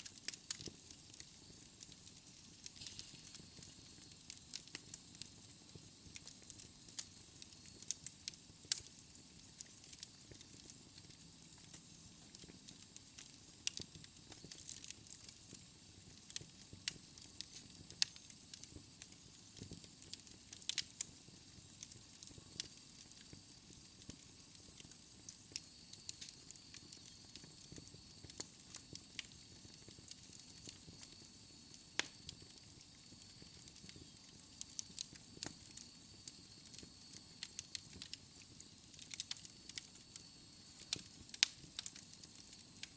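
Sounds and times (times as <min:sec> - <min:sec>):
fire crackling: 0:00.0 - 0:42.9.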